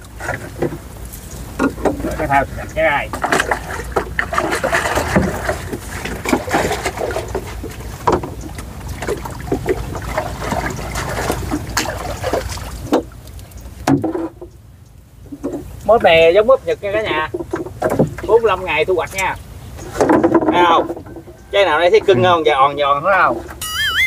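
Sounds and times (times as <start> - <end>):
knocks and clicks in a boat: 0.0 - 23.7.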